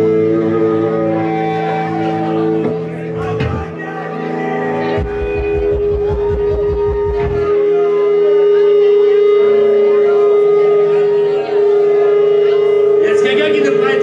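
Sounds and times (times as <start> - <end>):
band playing low notes: 0.0 - 14.0
guitar amplifier feedback tone: 0.0 - 14.0.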